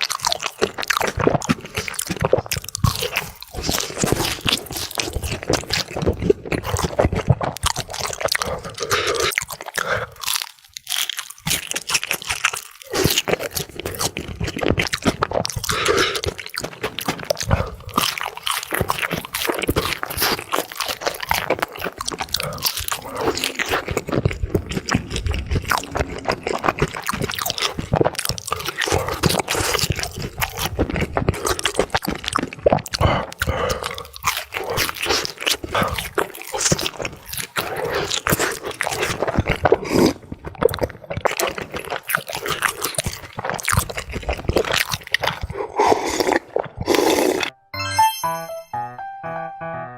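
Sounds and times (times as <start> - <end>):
crunchy food being chewed: 0.0 - 47.5.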